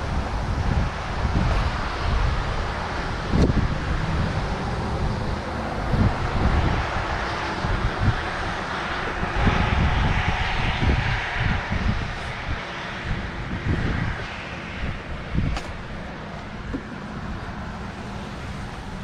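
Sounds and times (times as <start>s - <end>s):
steady rushing noise: 0.0s - 19.0s
wind buffeting microphone: 0.0s - 19.0s.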